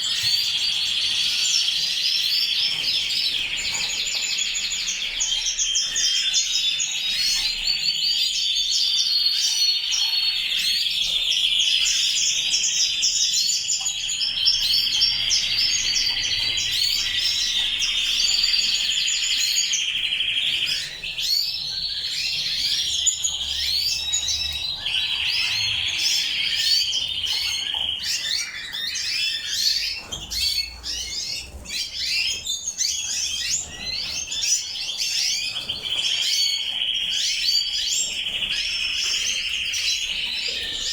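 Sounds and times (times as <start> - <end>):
canaries singing trills: 0.0 - 40.9.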